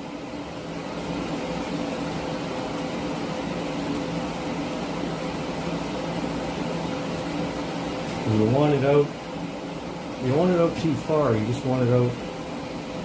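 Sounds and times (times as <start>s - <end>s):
machine hum with fan hiss: 0.0s - 13.0s.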